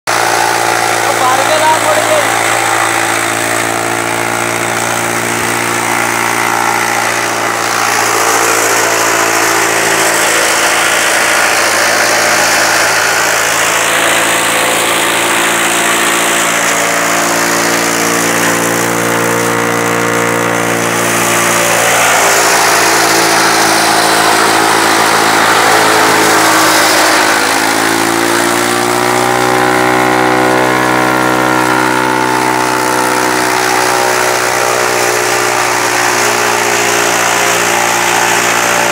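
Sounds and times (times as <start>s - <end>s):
tractor engine running: 0.0s - 38.9s
chaff cutter whirring and hissing: 0.1s - 38.9s.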